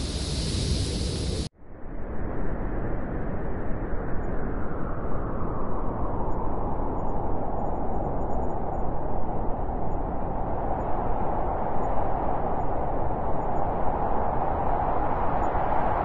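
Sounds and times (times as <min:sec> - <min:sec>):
blizzard wind buffeting microphone: 0:00.0 - 0:16.0.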